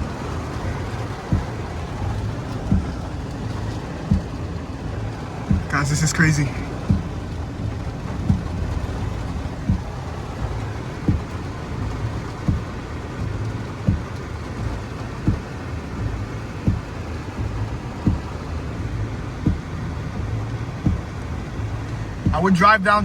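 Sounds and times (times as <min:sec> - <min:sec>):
car engine humming: 0:00.0 - 0:23.0
heavy rain drumming on a car: 0:00.0 - 0:23.0
windshield wipers thumping: 0:00.0 - 0:23.0.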